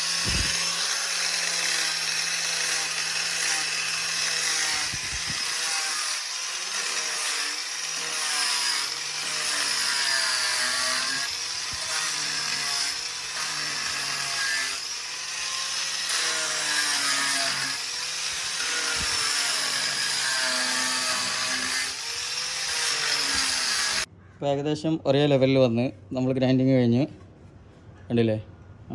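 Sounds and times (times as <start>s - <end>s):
electric grinder grinding: 0.0s - 24.1s.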